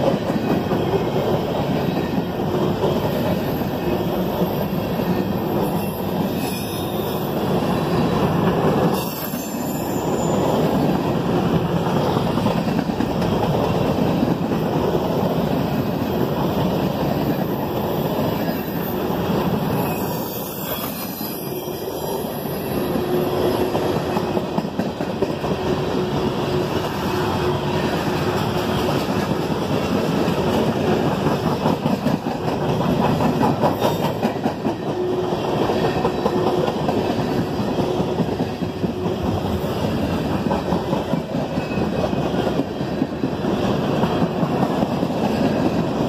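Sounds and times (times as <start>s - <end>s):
freight train wheels clicking on rails: 0.0s - 46.0s.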